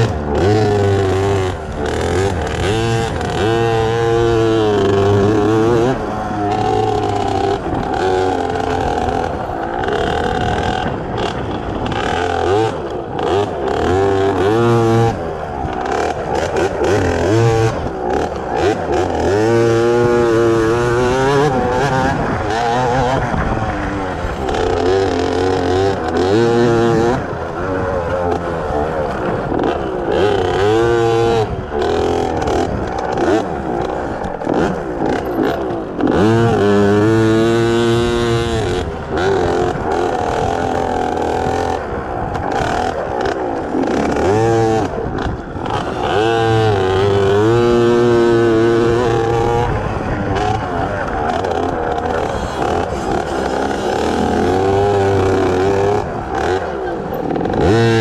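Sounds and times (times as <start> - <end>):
small two-stroke engine revving: 0.0 - 58.0.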